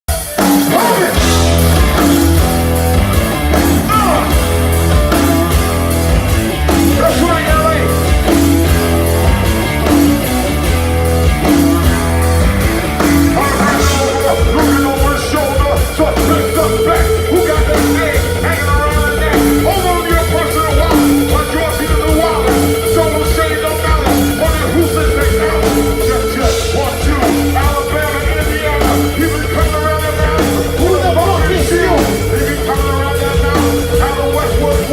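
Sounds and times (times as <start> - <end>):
vocals: 0.1 - 2.8, 3.4 - 5.8, 6.6 - 8.9, 11.4 - 34.9
heavy bass line: 0.1 - 34.9
rap rock band playing live: 0.1 - 34.9.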